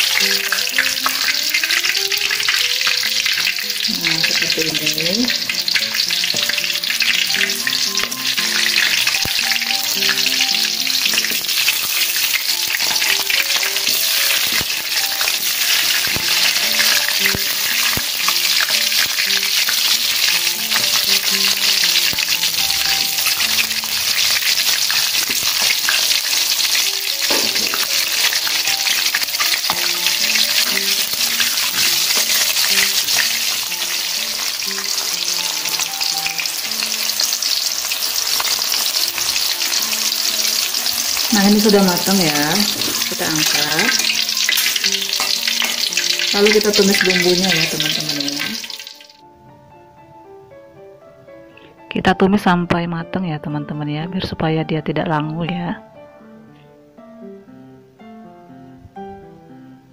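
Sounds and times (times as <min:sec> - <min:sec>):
oil sizzling and crackling: 0:00.0 - 0:49.2.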